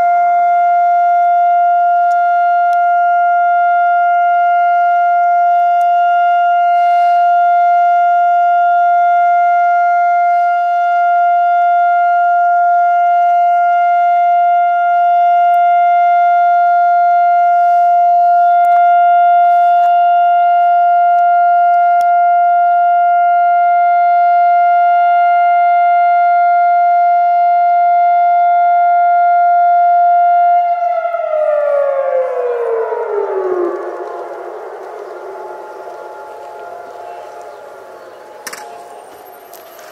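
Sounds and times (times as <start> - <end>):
civil defense siren: 0.0 - 39.9.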